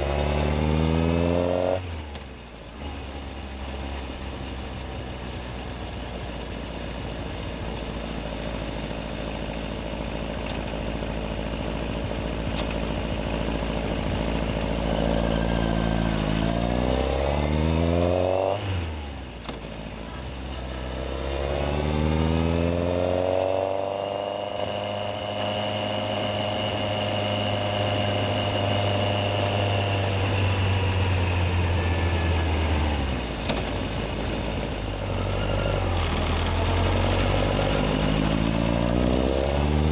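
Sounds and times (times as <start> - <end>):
motorcycle engine revving: 0.0 - 5.7, 6.9 - 39.9.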